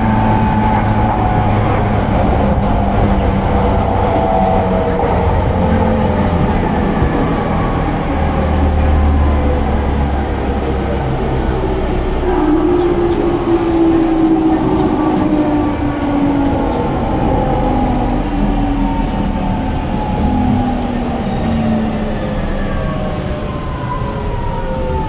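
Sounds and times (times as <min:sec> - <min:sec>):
train running gear rumbling: 0:00.0 - 0:25.0.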